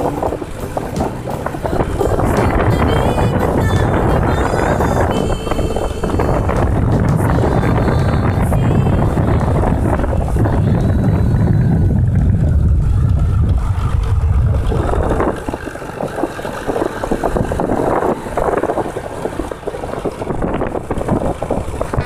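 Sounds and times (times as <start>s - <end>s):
vehicle road noise: 0.0s - 22.0s
wind buffeting microphone: 0.0s - 22.0s.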